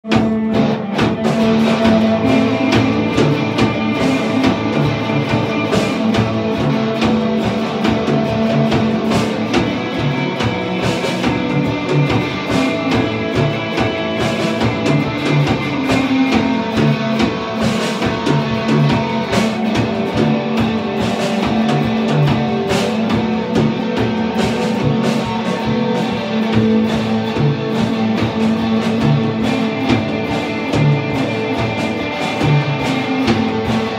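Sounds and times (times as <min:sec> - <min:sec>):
electric guitars: 0:00.0 - 0:33.9
steady drum beat: 0:00.0 - 0:33.9.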